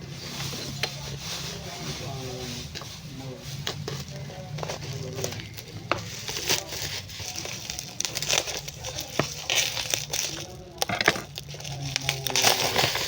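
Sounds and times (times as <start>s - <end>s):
plastic packaging crinkling: 0.2s - 13.0s.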